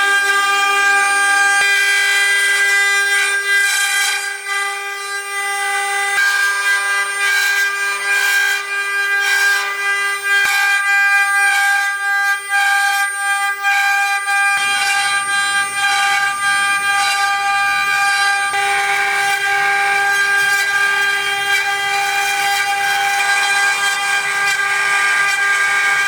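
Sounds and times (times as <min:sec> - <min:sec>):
milling machine cutter whine: 0:00.0 - 0:26.0.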